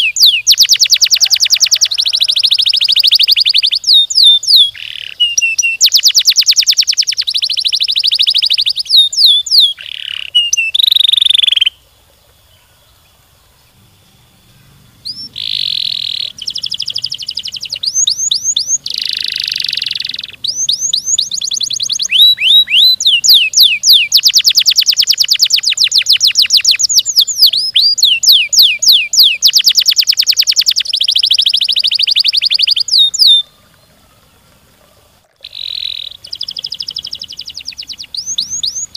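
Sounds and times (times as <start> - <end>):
canary singing: 0.0 - 11.8, 14.2 - 38.9.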